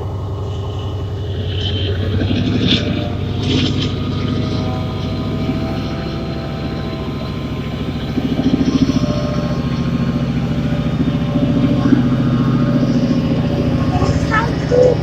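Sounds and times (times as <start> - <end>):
diesel train engine throbbing: 0.0 - 15.0.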